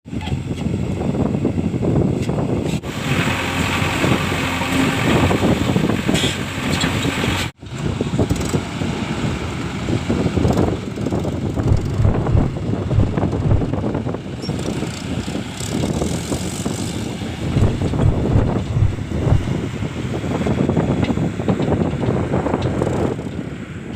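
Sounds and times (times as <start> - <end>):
wind noise on microphone: 0.0 - 23.9
diesel engine of backhoe loader: 0.1 - 23.9.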